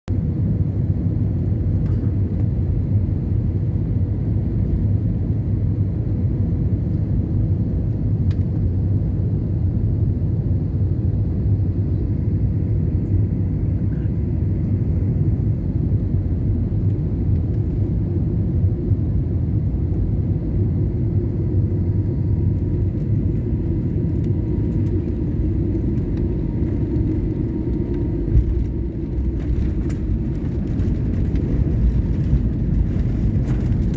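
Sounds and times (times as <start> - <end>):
airplane engines rumbling: 0.1 - 33.9.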